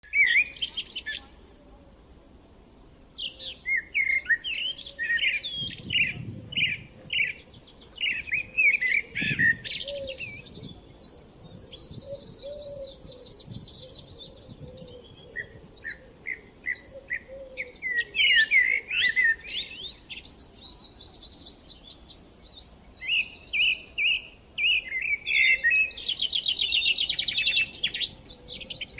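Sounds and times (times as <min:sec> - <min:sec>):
songbirds chirping and whistling: 0:00.0 - 0:01.3, 0:02.3 - 0:28.9.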